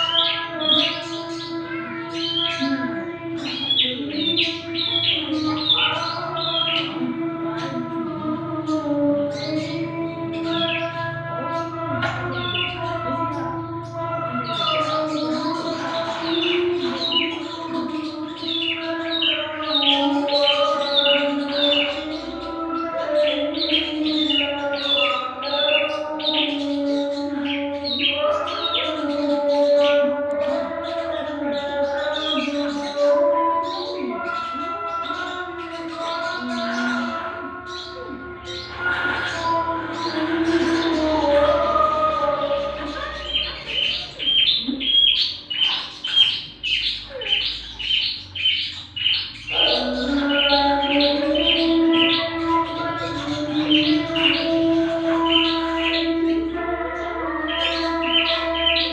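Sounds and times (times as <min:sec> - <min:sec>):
songbird chirping: 0:00.0 - 0:58.9.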